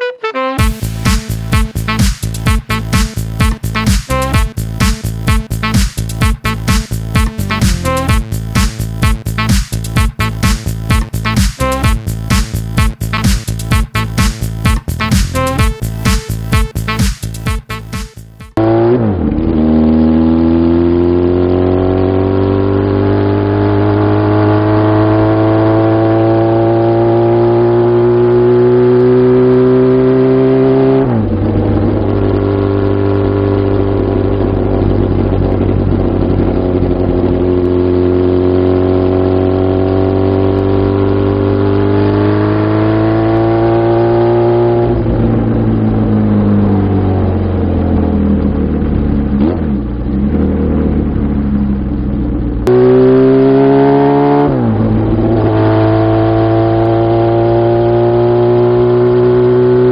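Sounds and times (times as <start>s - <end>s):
motorcycle engine revving: 0.6s - 17.5s, 18.6s - 59.9s.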